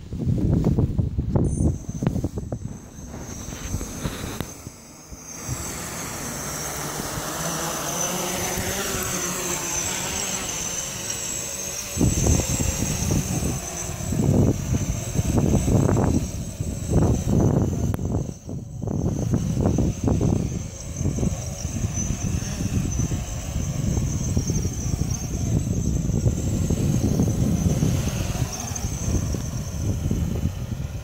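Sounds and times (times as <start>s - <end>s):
wind buffeting microphone: 0.0s - 31.0s
quadcopter motors whining: 0.1s - 31.0s.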